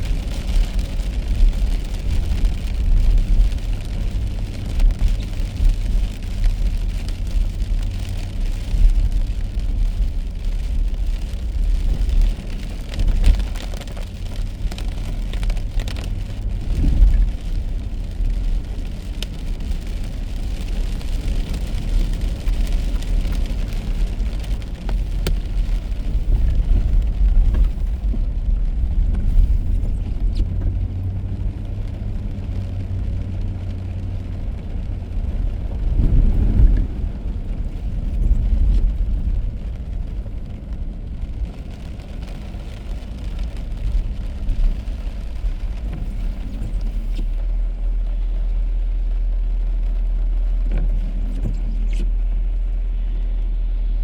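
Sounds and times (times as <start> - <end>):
car driving on wet road: 0.0 - 54.0.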